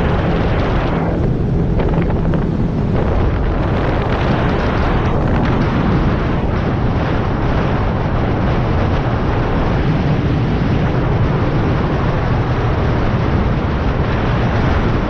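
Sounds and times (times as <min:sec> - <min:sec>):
boat engine and hull noise: 0:00.0 - 0:15.0
wind rushing over microphone: 0:00.0 - 0:15.0.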